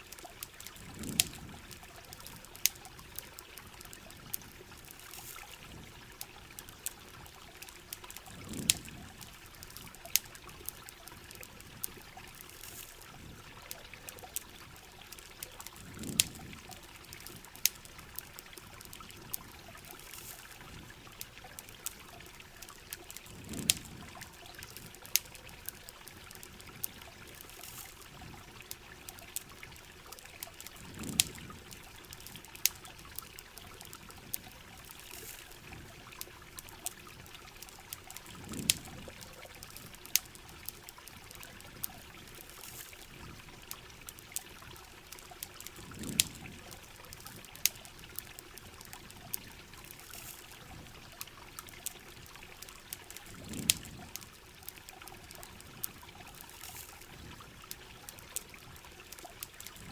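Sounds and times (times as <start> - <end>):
campfire popping and crackling: 0.0 - 59.9.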